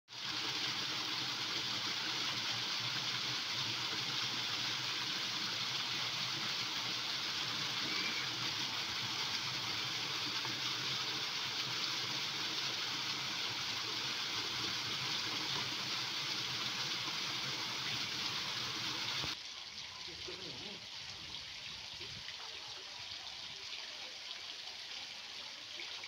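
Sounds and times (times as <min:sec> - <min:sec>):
fountain water splashing: 0:00.1 - 0:26.0.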